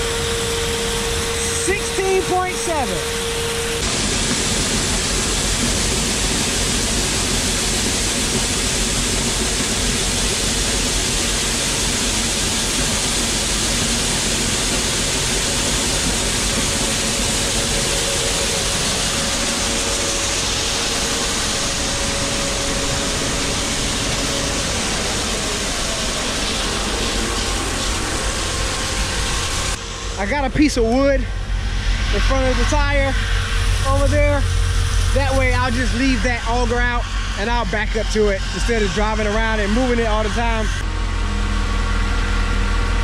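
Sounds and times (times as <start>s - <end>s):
grain auger running: 0.0s - 43.0s.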